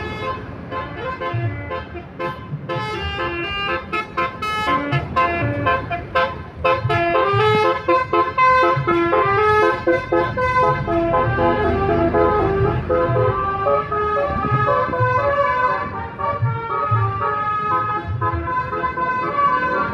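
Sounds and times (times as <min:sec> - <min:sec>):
musical bus air horn melody: 0:00.0 - 0:19.9.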